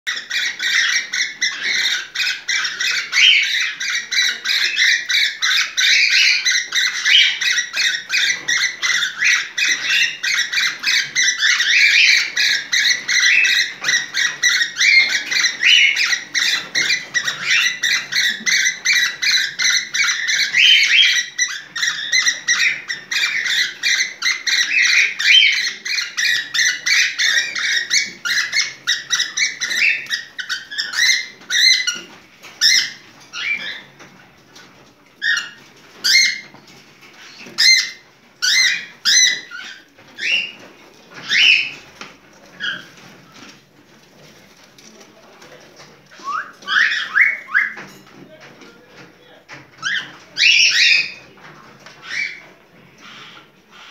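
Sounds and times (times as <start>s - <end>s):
cockatiel chirping and squawking: 0.1s - 43.6s, 46.1s - 48.4s, 49.0s - 53.9s.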